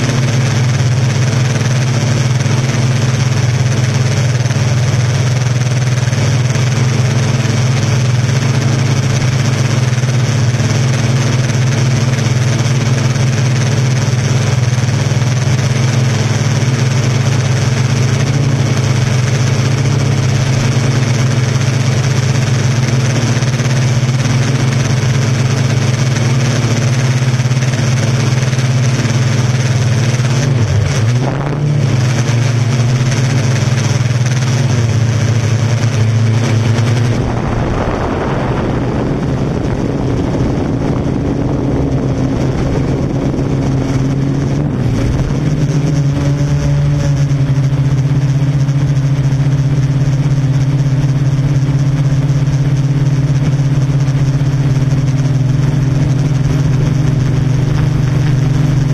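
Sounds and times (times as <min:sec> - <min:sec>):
drone propellers humming: 0:00.0 - 0:58.9.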